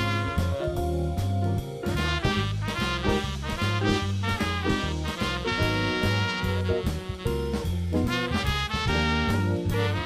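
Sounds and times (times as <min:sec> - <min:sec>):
bass line: 0:00.0 - 0:10.0
drum kit and cymbals: 0:00.0 - 0:10.0
swing jazz band playing: 0:00.0 - 0:10.0.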